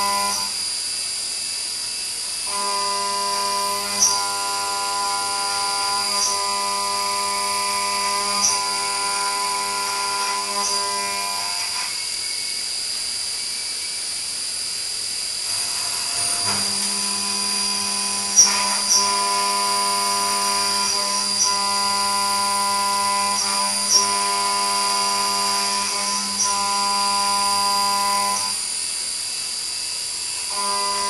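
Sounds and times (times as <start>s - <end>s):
milling machine whine: 0.0s - 31.0s.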